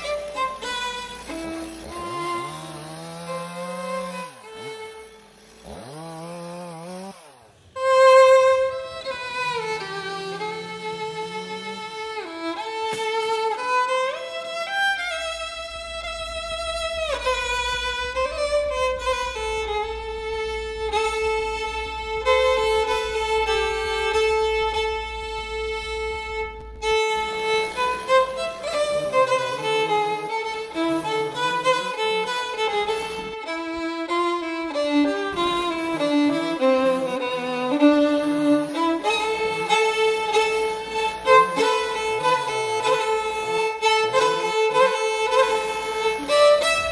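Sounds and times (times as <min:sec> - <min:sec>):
violin playing lively melody: 0:00.0 - 0:06.0, 0:07.6 - 0:46.9.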